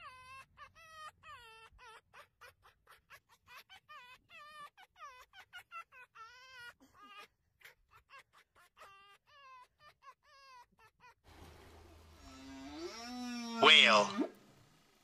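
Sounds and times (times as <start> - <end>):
fox whining call: 0.0 - 11.2, 12.2 - 14.4.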